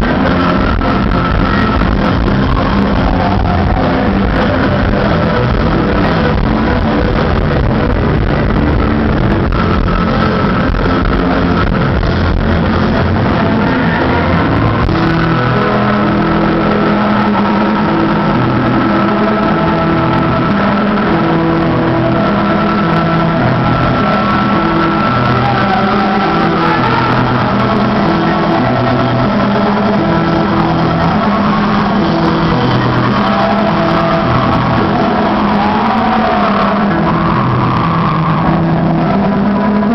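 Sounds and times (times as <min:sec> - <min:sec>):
bass guitar: 0:00.0 - 0:39.9
distorted electric guitars: 0:00.0 - 0:39.9
drums: 0:00.0 - 0:39.9.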